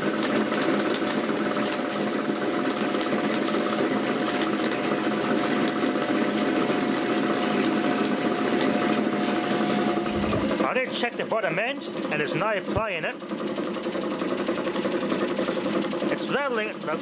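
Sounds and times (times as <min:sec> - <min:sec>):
air compressor running: 0:00.0 - 0:17.0.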